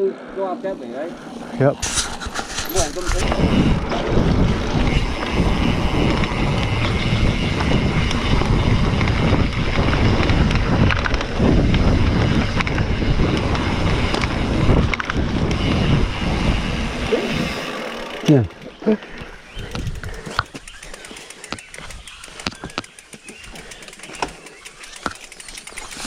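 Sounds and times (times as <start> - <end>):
mountain bike rattling on dirt trail: 0.7 - 26.0
wind buffeting microphone: 1.2 - 26.0.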